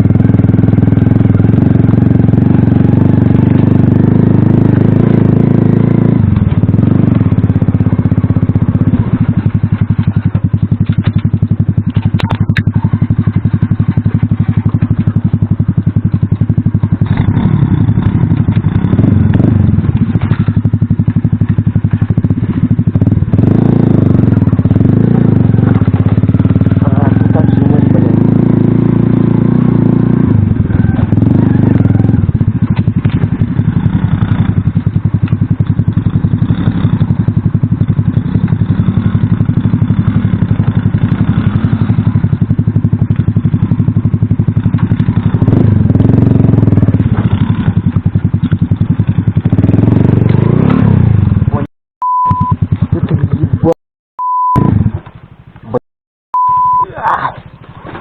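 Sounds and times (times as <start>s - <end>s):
moped engine running: 0.0s - 53.8s, 54.4s - 55.8s.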